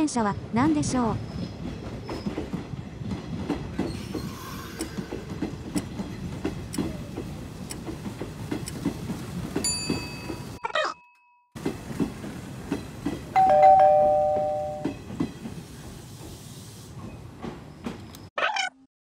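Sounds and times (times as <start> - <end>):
train rumbling: 0.0 - 10.6, 11.6 - 18.3
wheels clacking on rails: 0.0 - 10.6, 11.6 - 18.3.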